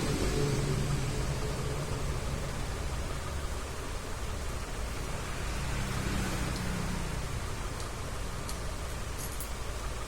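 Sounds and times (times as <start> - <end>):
background rumble and hiss: 0.0 - 10.0.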